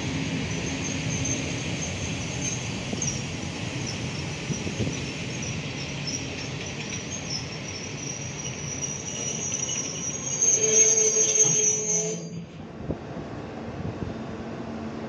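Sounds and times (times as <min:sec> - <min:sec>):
train brakes squealing: 0:00.0 - 0:12.6.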